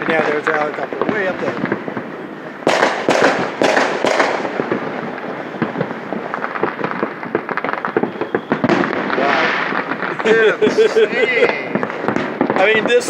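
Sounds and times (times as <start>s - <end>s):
fireworks bangs and crackle: 0.0s - 13.0s.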